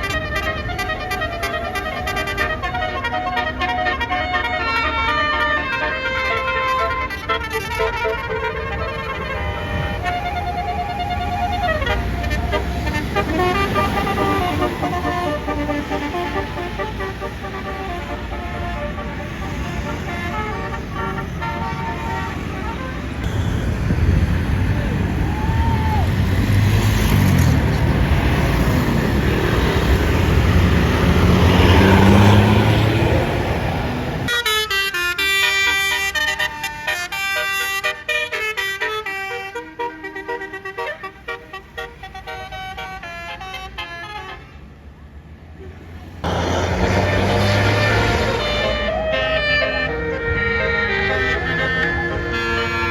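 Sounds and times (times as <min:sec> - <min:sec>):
horn playing fast tune: 0:00.0 - 0:23.8, 0:30.2 - 0:44.4, 0:46.2 - 0:52.9
bus engine running: 0:00.0 - 0:44.4, 0:45.3 - 0:52.9.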